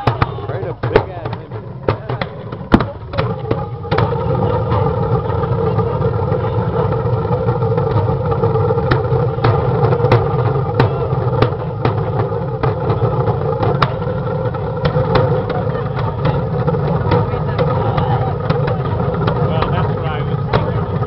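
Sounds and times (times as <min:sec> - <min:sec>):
motor running with low rumble: 0:00.0 - 0:21.0.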